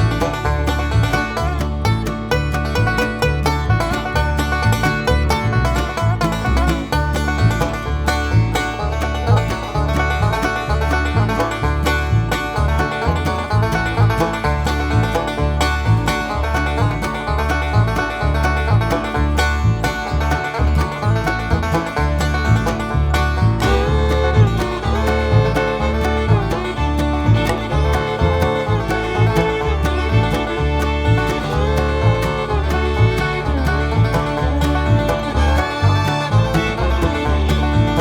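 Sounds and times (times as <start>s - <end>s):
bluegrass music with banjo and guitar: 0.0s - 38.0s.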